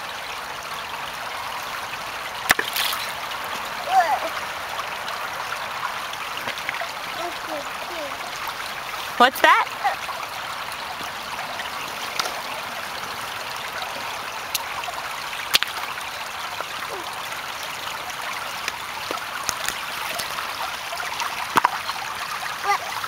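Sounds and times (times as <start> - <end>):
creek babbling over stones: 0.0 - 23.0.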